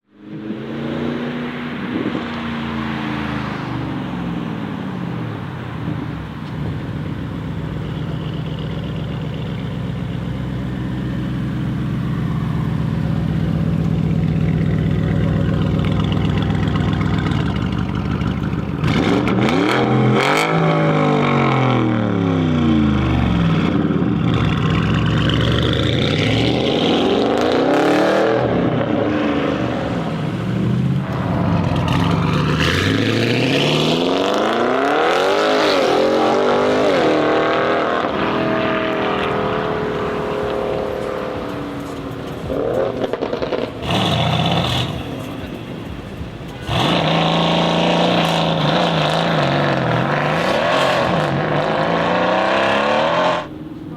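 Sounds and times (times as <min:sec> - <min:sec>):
car engine idling and revving: 0:00.0 - 0:53.9
exhaust crackles: 0:08.0 - 0:21.9, 0:23.4 - 0:52.8.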